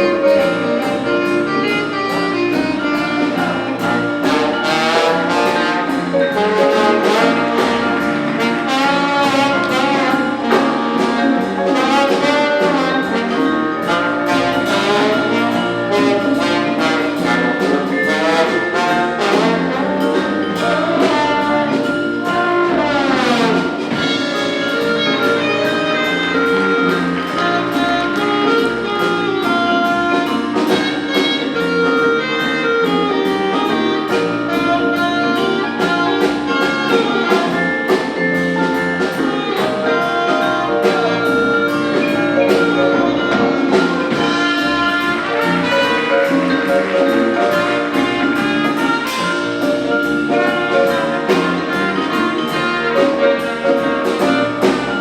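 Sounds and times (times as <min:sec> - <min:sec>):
jazz big band playing: 0:00.0 - 0:55.0
steady cymbal beat: 0:00.0 - 0:55.0.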